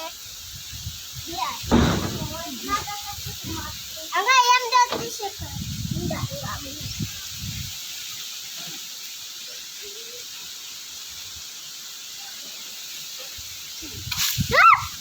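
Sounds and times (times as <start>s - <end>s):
wind rushing through foliage: 0.0s - 8.5s, 9.1s - 12.1s, 13.4s - 15.0s.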